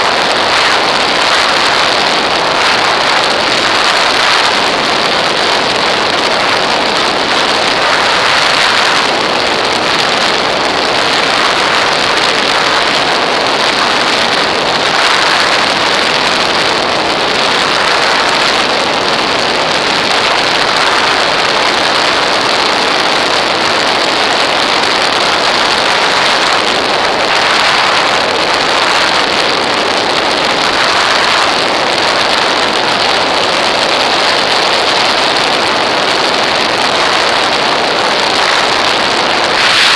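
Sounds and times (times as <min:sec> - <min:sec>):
rush of airflow: 0:00.0 - 0:39.9.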